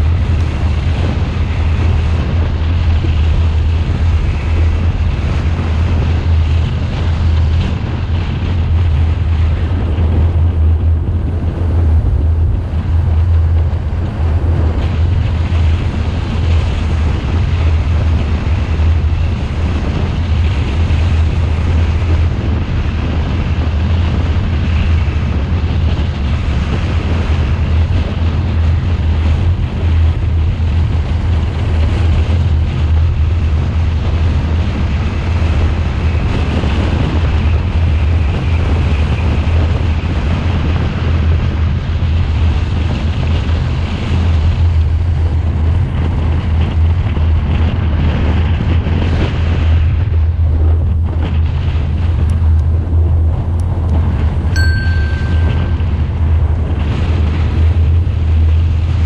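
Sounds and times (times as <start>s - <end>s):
car driving on paved road: 0.0s - 59.0s
wind buffeting microphone: 0.0s - 59.0s.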